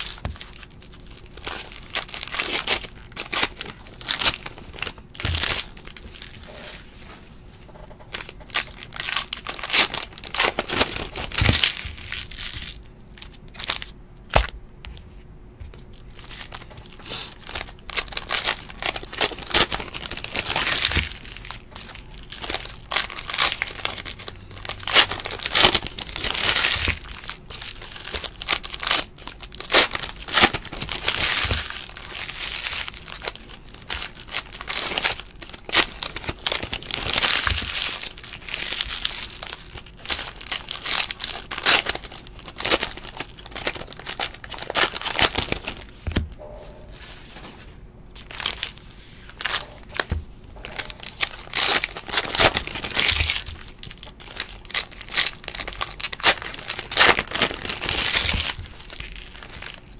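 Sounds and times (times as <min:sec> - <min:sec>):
card pack wrappers tearing and crinkling: 0:00.0 - 0:07.0, 0:08.1 - 0:14.5, 0:15.7 - 0:46.2, 0:48.2 - 0:59.9.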